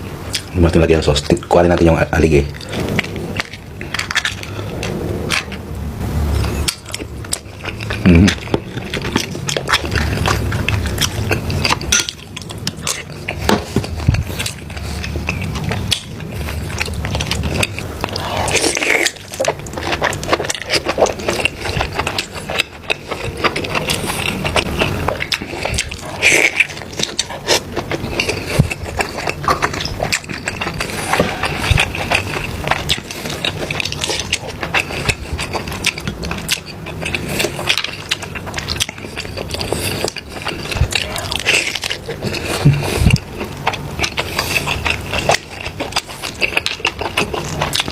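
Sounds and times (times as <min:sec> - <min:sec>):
chewing and sucking: 0:00.0 - 0:47.9.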